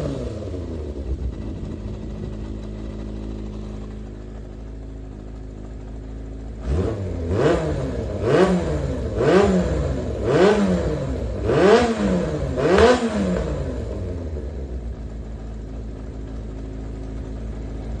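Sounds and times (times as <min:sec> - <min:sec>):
engine revving: 0:00.0 - 0:05.8, 0:06.5 - 0:15.2
motorcycle engine idling: 0:00.0 - 0:18.0.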